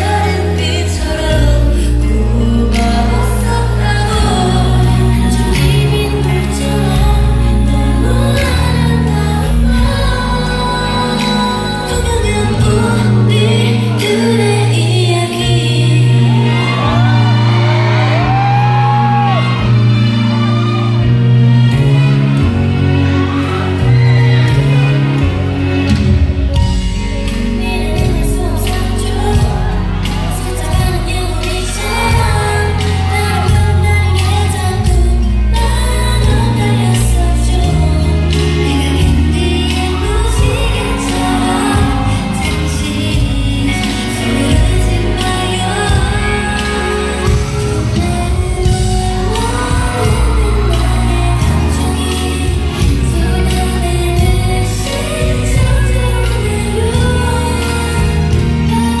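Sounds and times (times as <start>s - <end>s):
women singing: 0.0s - 25.9s, 26.5s - 59.0s
backing music: 0.0s - 59.0s
bass and keyboard notes: 0.0s - 59.0s.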